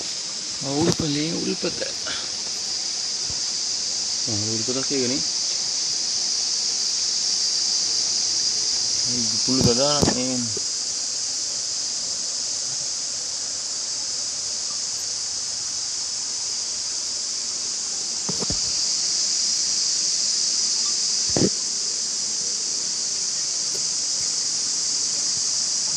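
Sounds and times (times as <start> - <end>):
insect chorus drone: 0.0 - 25.9.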